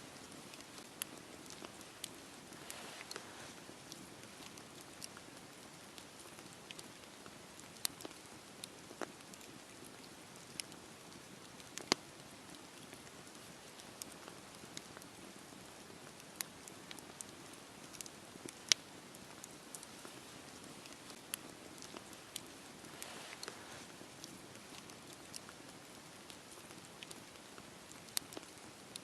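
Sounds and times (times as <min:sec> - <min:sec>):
wood crackling and popping: 0:00.0 - 0:29.0
flames rustling: 0:00.1 - 0:29.0.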